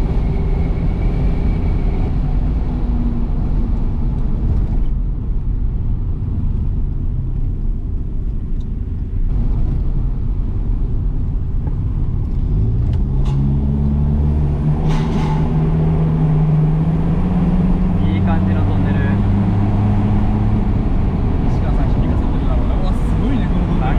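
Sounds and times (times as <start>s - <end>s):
road rumble: 0.0s - 23.9s.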